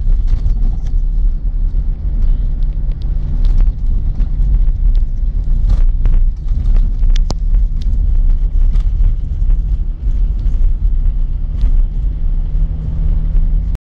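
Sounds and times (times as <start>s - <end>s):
engine and tyres rumbling: 0.0s - 13.8s.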